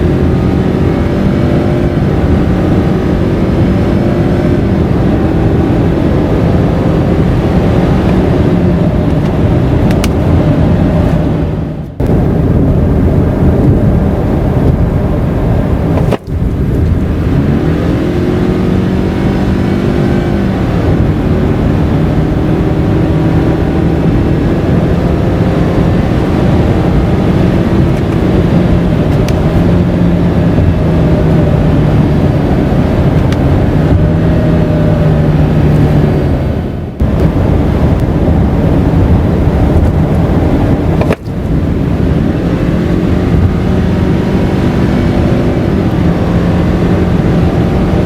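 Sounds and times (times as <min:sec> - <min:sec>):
car engine running: 0:00.0 - 0:48.0
road noise: 0:00.0 - 0:48.0.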